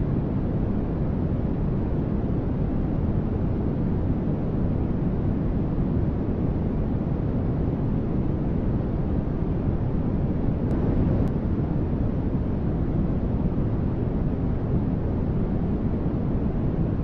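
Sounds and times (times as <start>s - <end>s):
deep white noise hiss: 0.0s - 17.0s.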